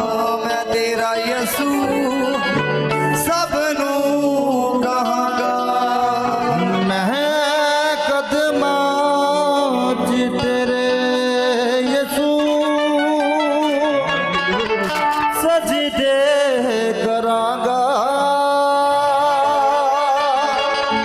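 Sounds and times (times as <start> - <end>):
harmonium and instrumental accompaniment: 0.0 - 21.0.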